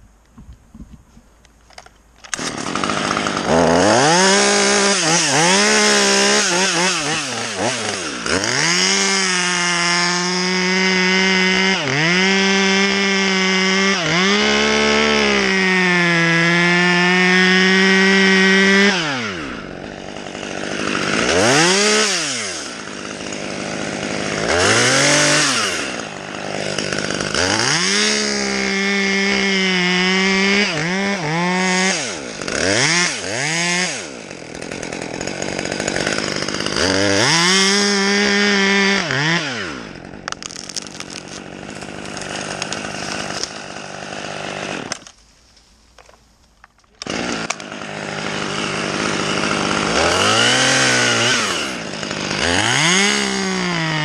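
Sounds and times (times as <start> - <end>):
chainsaw cutting wood: 1.7 - 54.0.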